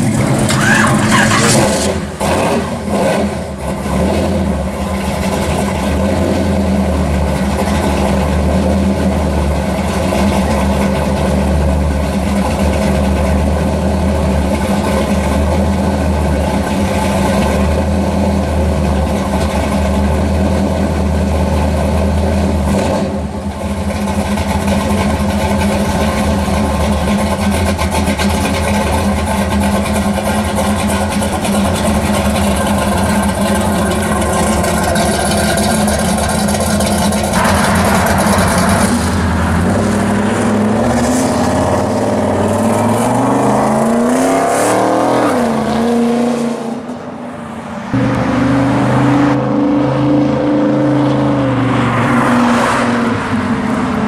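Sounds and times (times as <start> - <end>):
car engine idling: 0.0 - 44.4, 46.7 - 51.8
pickup truck exhaust running: 0.0 - 46.1, 47.9 - 52.2.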